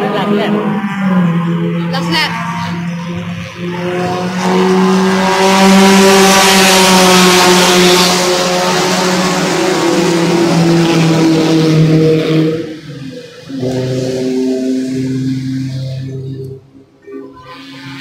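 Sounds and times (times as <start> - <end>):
race car passing at speed: 0.0 - 16.7.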